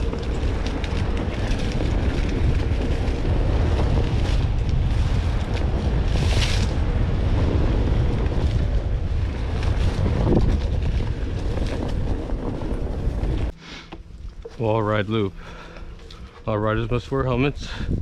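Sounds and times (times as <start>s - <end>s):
low rumble of board rolling: 0.0s - 18.0s
wind buffeting microphone: 0.0s - 18.0s.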